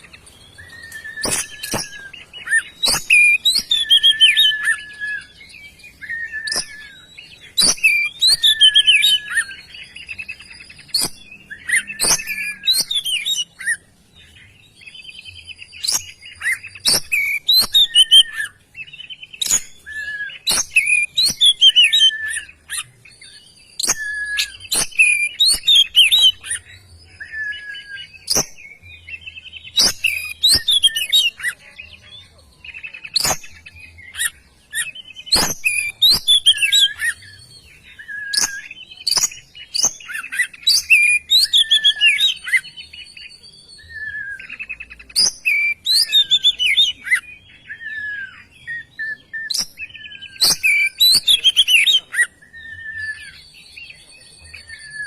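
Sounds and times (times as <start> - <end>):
bird singing whistled phrases: 0.0 - 55.0.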